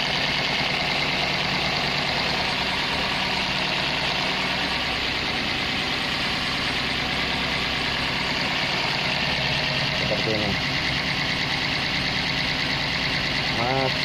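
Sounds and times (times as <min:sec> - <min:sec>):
engine idling roughly and misfiring: 0:00.0 - 0:14.0.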